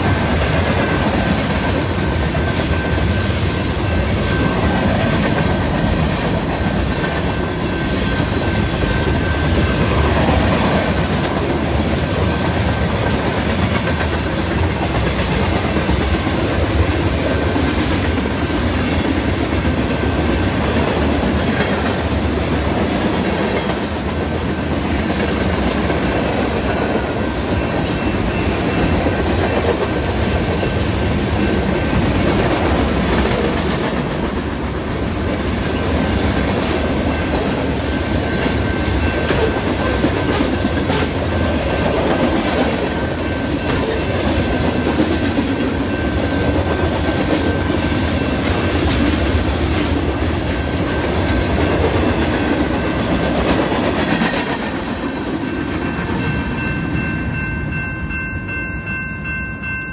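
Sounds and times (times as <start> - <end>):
clickety-clack over rail joints: 0.0 - 56.4
crossing warning bell ringing: 0.0 - 59.9
freight train wheels rumbling on rails: 0.0 - 59.9.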